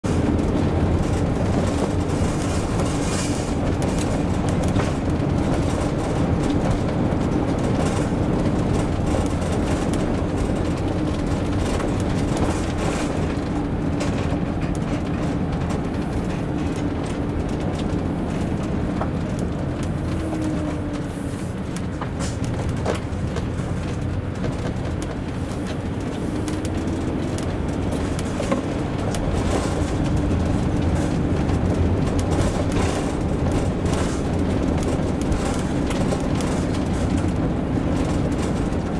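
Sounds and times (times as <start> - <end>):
engine and tyres drone: 0.0 - 38.9.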